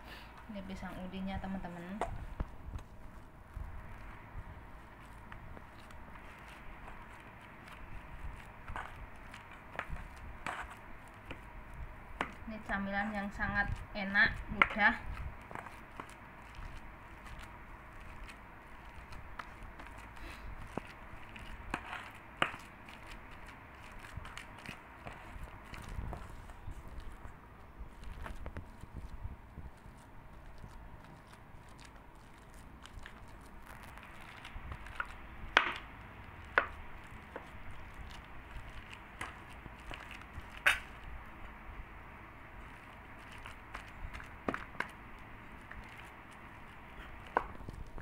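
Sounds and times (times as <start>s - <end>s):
bananas squishing in a bowl: 0.5s - 48.0s.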